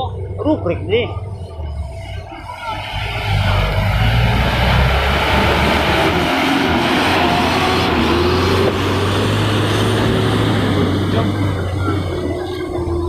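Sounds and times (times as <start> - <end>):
diesel engines running: 0.0 - 13.0.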